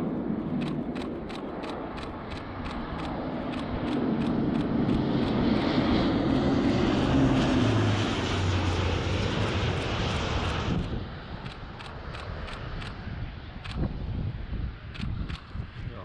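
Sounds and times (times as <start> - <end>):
propeller plane flying past: 0.0 - 15.9.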